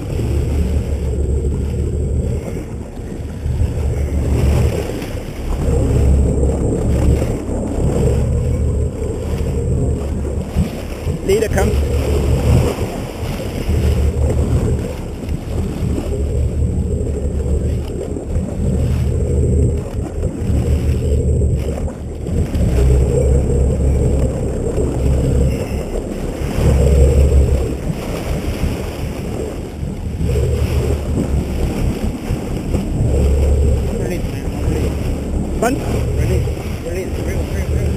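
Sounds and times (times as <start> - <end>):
water splashing against boat: 0.0 - 37.9
wind rumbling on microphone: 0.0 - 37.9.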